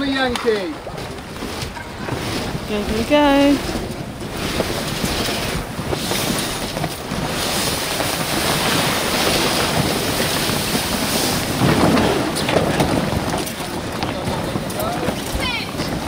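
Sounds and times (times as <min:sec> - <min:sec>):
sea water rushing along hull: 0:00.0 - 0:16.0
wind on microphone: 0:00.0 - 0:16.0.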